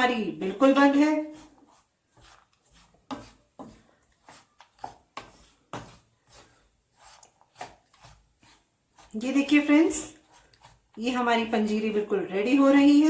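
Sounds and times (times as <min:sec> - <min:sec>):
utensil scraping a pan: 0:00.3 - 0:11.8.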